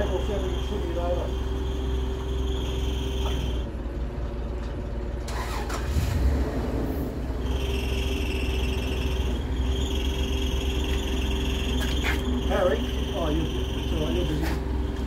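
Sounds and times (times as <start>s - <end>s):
forklift engine running: 0.0s - 15.0s.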